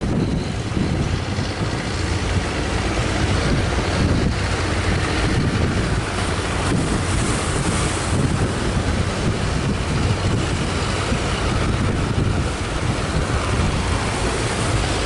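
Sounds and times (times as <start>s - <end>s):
rough sea: 0.0s - 15.0s
wind buffeting microphone: 0.0s - 15.0s.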